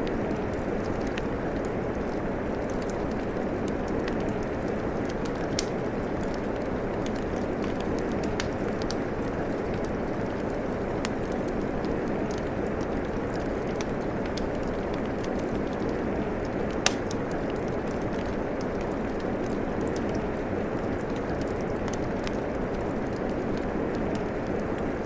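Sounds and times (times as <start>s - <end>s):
steady rain hiss: 0.0s - 25.0s
wood fire crackling: 0.0s - 25.0s.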